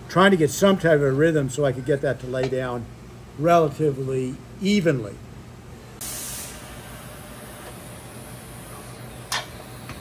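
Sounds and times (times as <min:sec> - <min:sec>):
low workshop hum: 0:00.0 - 0:10.0.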